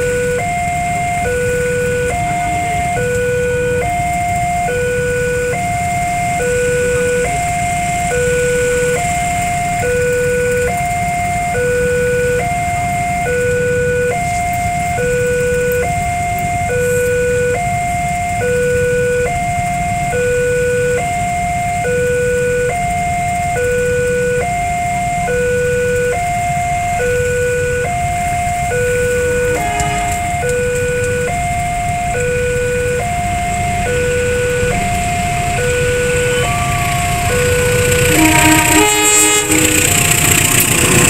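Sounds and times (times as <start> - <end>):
two-tone crossing alarm: 0.0 - 41.0.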